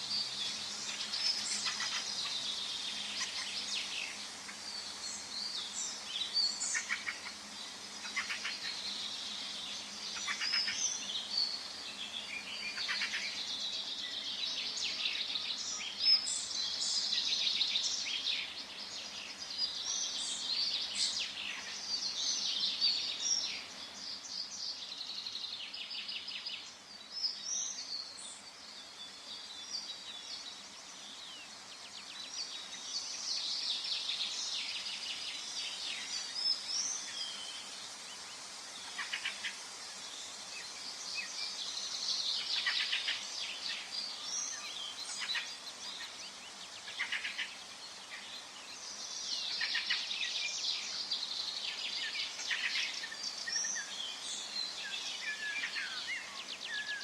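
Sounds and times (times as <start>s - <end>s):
soft background hiss: 0.0s - 57.0s
songbirds chirping and trilling: 0.0s - 57.0s.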